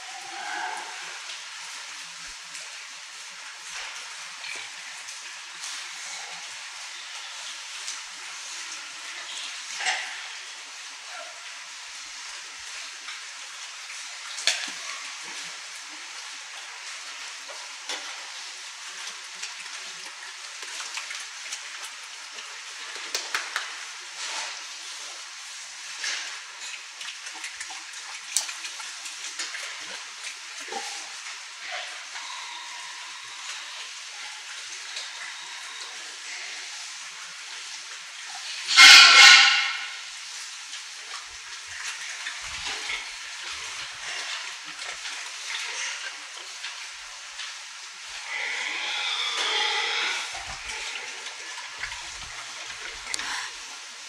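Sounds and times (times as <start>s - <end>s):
steady hiss of pig barn: 0.0s - 54.0s.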